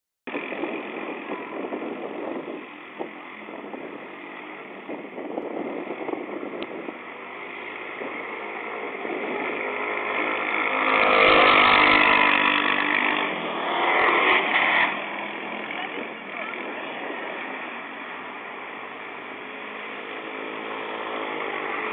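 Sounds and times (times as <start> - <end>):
dune buggy engine running: 0.3 - 21.9.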